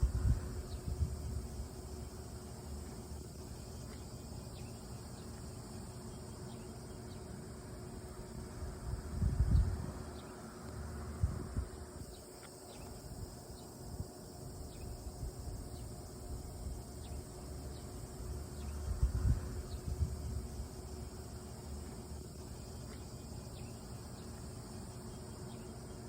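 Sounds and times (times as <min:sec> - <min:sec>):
night insects chirping: 0:00.0 - 0:26.0
steady low hum: 0:00.0 - 0:26.0.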